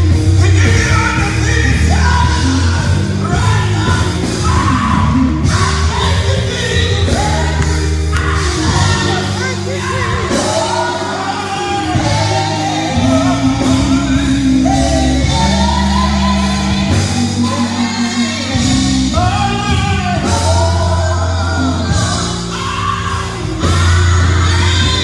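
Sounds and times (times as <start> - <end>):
bass guitar: 0.0 - 25.0
drums: 0.0 - 25.0
man singing into microphone: 0.0 - 25.0.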